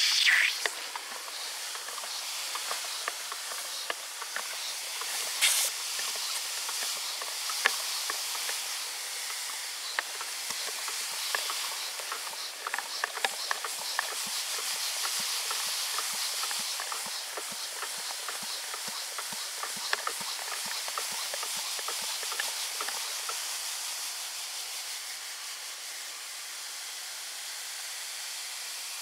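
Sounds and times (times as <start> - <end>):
short sharp hiss: 0.0 - 26.3.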